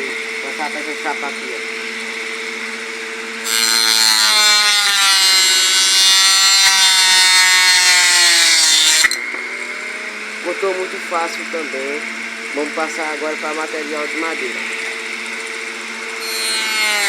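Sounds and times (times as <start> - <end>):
loud saw cutting whine: 0.0 - 17.0
saw motor humming: 0.0 - 17.0.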